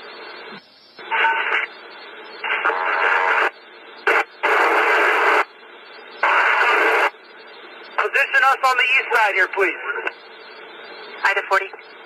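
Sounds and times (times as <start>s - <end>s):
steady background hiss: 0.0s - 12.0s
radio static bursts: 0.1s - 12.0s.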